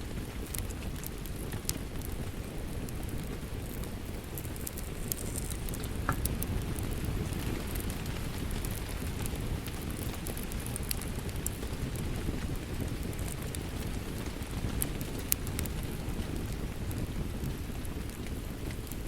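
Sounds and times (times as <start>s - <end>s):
steady rain falling: 0.0s - 19.0s
wood fire crackling: 0.0s - 19.0s.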